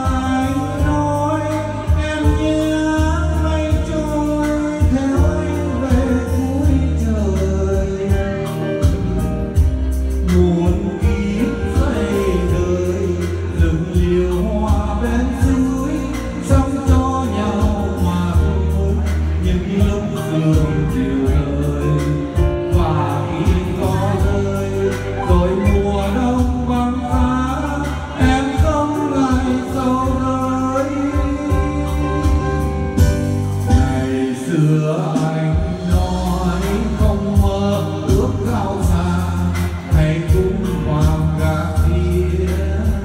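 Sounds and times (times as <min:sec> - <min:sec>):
instrumental backing music: 0:00.0 - 0:43.0
man singing into a microphone: 0:00.0 - 0:43.0.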